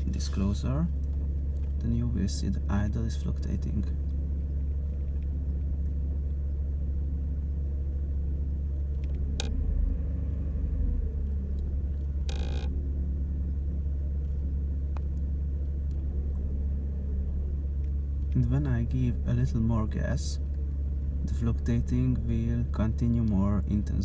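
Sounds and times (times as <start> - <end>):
car engine idling unevenly: 0.0 - 24.0.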